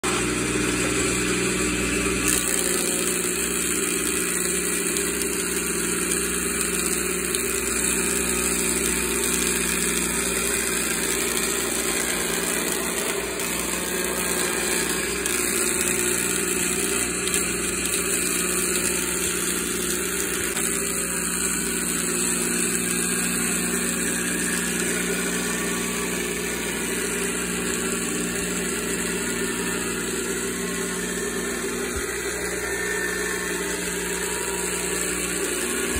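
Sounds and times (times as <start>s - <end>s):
thickness planer running: 0.0s - 35.9s.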